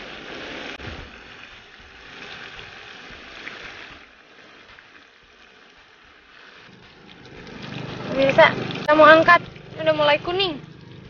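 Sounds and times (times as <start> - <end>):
prawns sizzling in hot oil: 0.0 - 11.0.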